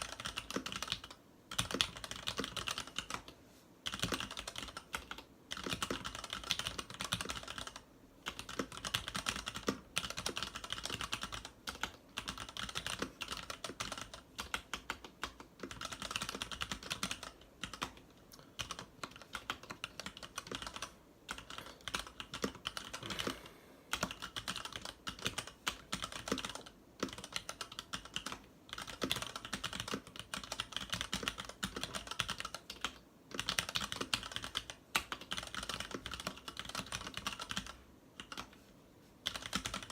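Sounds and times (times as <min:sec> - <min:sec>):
typing on mechanical keyboard: 0:00.0 - 0:38.6, 0:39.2 - 0:39.9.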